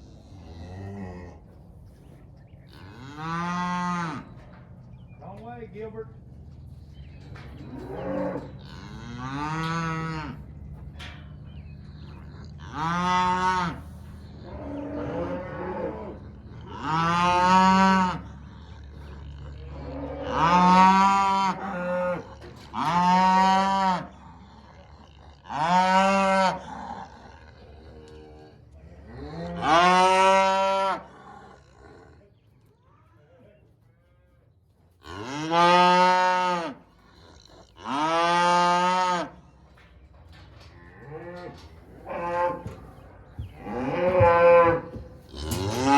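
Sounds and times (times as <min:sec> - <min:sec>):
cattle mooing: 0:00.0 - 0:01.5, 0:02.7 - 0:04.6, 0:07.3 - 0:32.3, 0:35.0 - 0:39.4, 0:40.5 - 0:45.9.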